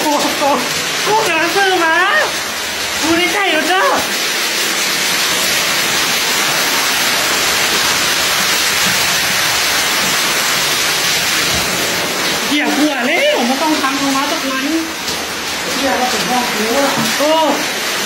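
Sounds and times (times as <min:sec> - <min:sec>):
heavy rain and strong wind: 0:00.0 - 0:18.0.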